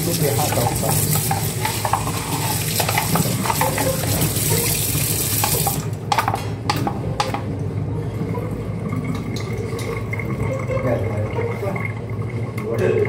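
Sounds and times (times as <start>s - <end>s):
water running from a tap: 0.0s - 6.1s, 8.3s - 13.0s.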